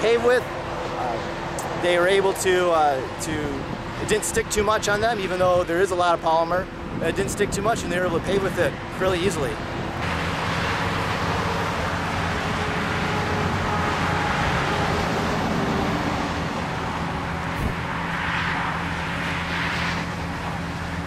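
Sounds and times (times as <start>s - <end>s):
diesel engine humming: 0.0s - 21.0s
road and machinery hiss: 0.0s - 21.0s.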